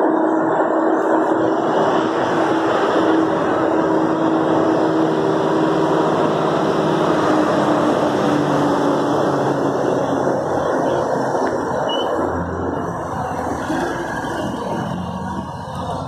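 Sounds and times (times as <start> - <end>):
vehicle engines running: 0.0 - 16.0.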